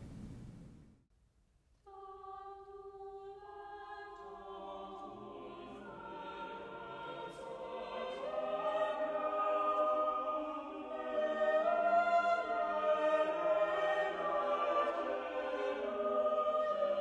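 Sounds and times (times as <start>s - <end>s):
choir singing long notes: 1.9s - 17.0s.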